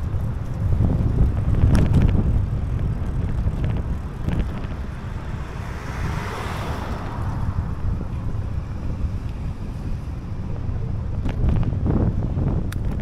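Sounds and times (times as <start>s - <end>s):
steady low rumble: 0.0s - 13.0s
wind buffeting microphone: 0.0s - 13.0s.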